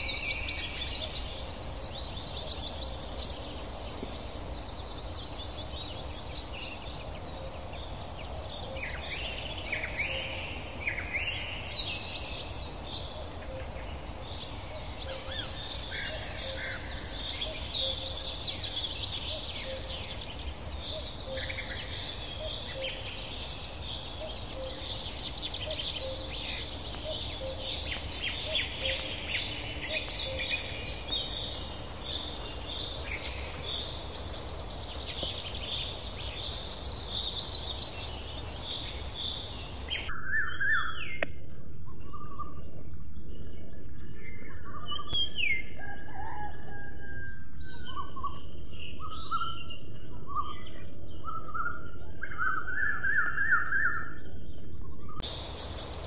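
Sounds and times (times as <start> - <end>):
steady high-pitched hiss: 0.0 - 45.6, 54.2 - 56.0
small birds chirping and twittering: 0.0 - 56.0.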